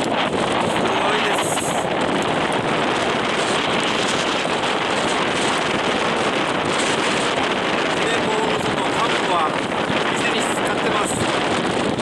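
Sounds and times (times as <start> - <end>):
river rushing in flood: 0.0 - 12.0.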